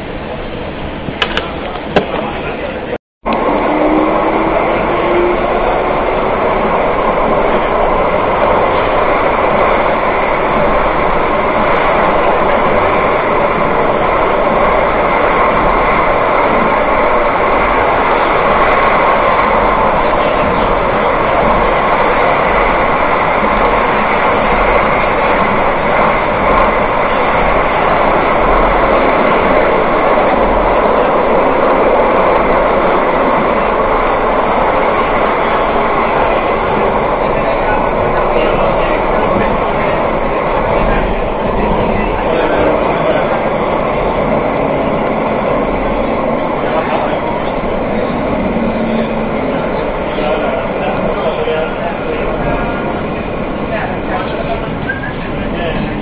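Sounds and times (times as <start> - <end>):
train running through tunnel: 0.0 - 56.0.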